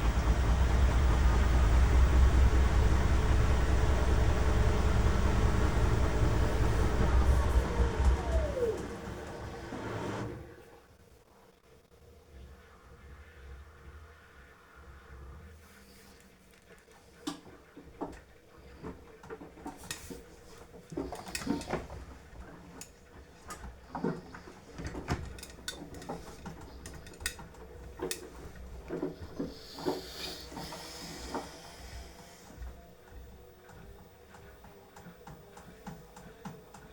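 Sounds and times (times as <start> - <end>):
washing machine humming: 0.0 - 10.9, 17.0 - 36.9.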